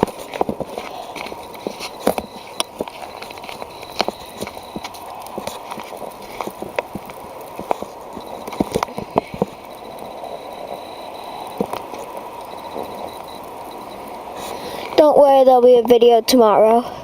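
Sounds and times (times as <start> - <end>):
muffled blizzard wind: 0.0 - 17.0.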